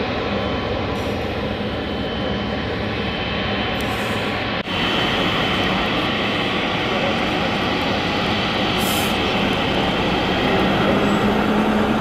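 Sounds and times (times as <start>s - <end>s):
jet engines at taxi power: 0.0s - 12.0s.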